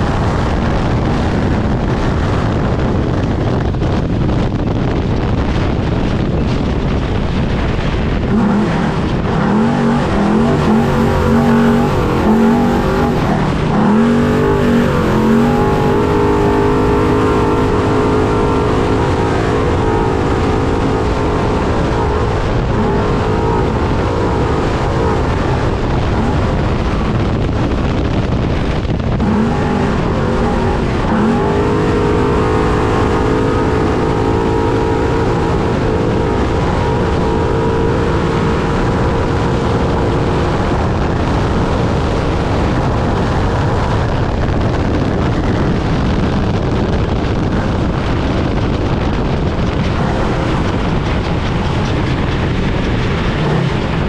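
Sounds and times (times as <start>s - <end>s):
dense noise of truck running: 0.0s - 54.0s
truck engine revving: 6.9s - 54.0s.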